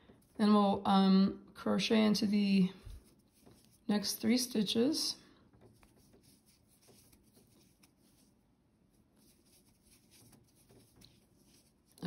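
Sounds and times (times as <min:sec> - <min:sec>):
yarn rustling through stitches: 0:00.0 - 0:01.1, 0:02.3 - 0:12.0.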